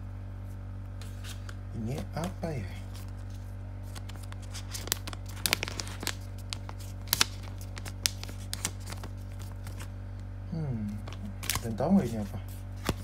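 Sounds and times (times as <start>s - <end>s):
steady low hum: 0.0s - 13.0s
paper and plastic crinkling: 1.0s - 9.9s, 10.9s - 13.0s.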